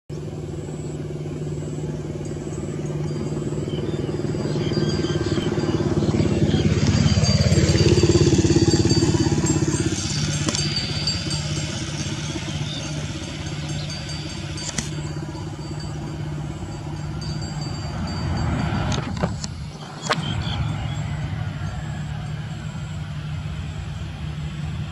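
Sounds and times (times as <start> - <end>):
high engine whine: 0.0 - 24.9
jet engines running: 0.1 - 24.9.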